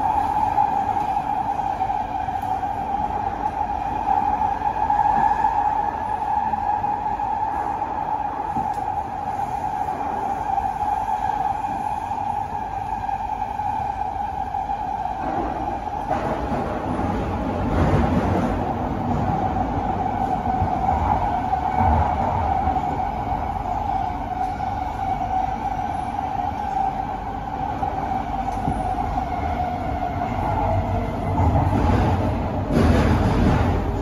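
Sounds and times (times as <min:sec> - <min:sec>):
steady train whine: 0:00.0 - 0:34.0
train wheels rumbling on track: 0:00.0 - 0:34.0.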